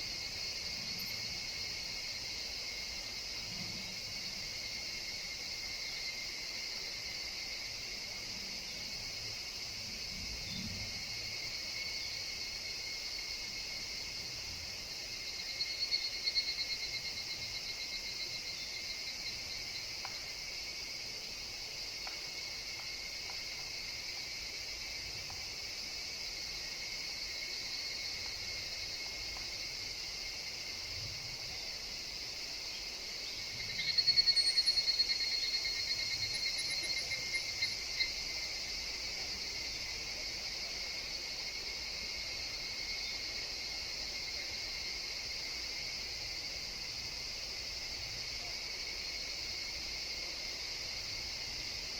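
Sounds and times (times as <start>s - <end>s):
cicada rapid pulsing call: 0.0s - 51.9s
cicadas chorus: 0.0s - 51.9s.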